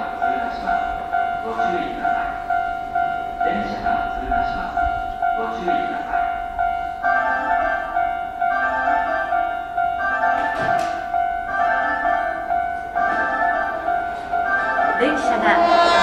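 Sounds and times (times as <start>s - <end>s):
loudspeaker bell-like melody: 0.0s - 16.0s.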